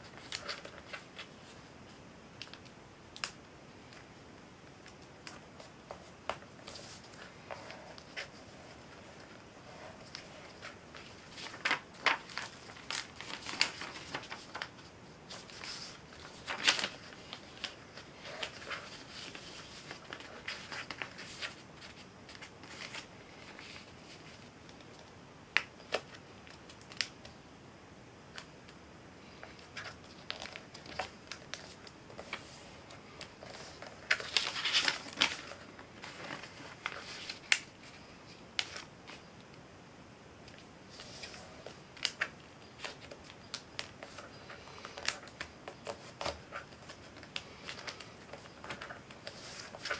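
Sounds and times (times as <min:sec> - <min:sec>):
paper crinkling and rustling: 0:00.0 - 0:04.1, 0:04.7 - 0:27.2, 0:28.3 - 0:39.3, 0:40.5 - 0:49.9.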